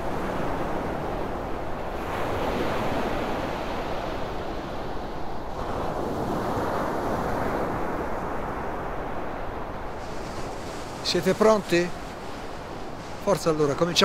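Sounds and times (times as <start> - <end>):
surf washing onto sand: 0.0 - 14.0
wind: 0.0 - 14.0.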